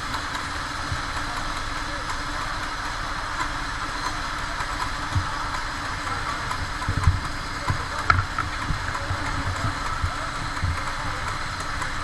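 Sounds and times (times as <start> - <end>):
kart engine idling: 0.0 - 12.0.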